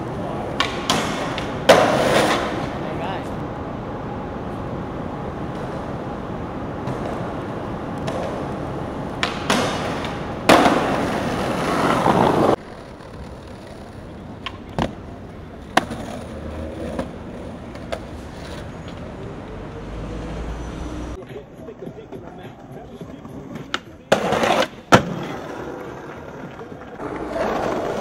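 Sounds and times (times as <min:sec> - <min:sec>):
skateboard clacking on pavement: 0:00.0 - 0:03.4, 0:05.4 - 0:19.6, 0:21.2 - 0:28.0
skateboard wheels rolling: 0:00.0 - 0:28.0.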